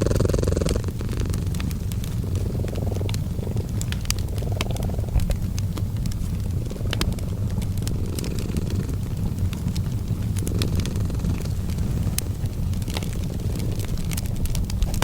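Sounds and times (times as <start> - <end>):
cat purring: 0.0 - 15.0
fireplace crackling: 0.0 - 15.0.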